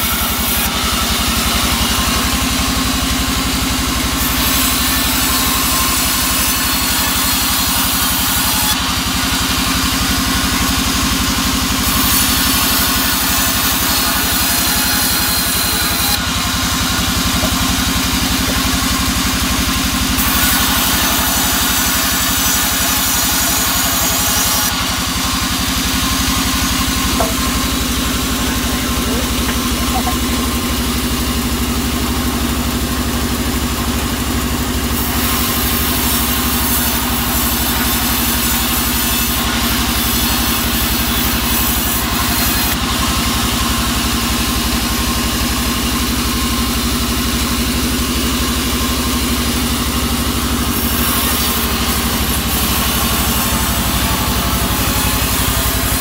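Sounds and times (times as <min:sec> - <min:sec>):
saw blade ripping wood: 0:00.0 - 0:32.1, 0:34.9 - 0:46.5, 0:47.7 - 0:56.0
band saw engine hum: 0:00.0 - 0:56.0.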